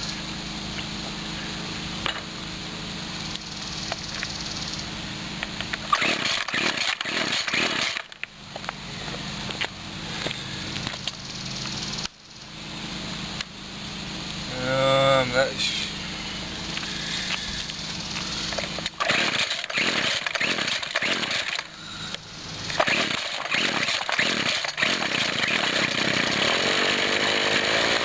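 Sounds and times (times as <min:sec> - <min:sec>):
string trimmer engine idling: 0:00.0 - 0:28.0.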